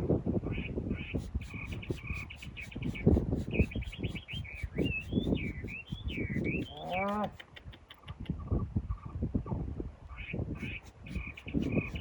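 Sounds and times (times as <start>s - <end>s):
small birds chirping: 0.4s - 9.2s, 10.1s - 12.0s.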